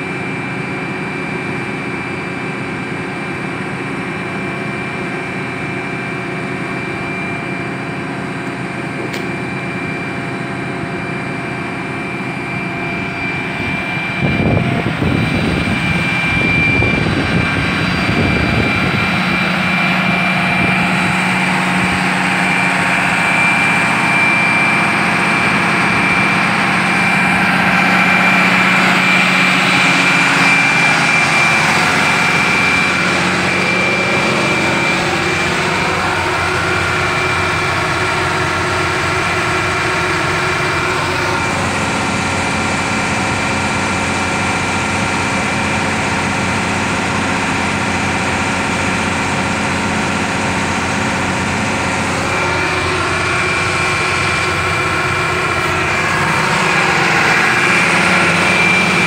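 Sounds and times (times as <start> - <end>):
thin high whine: 0.0 - 59.0
tractor diesel engine running: 0.0 - 59.0.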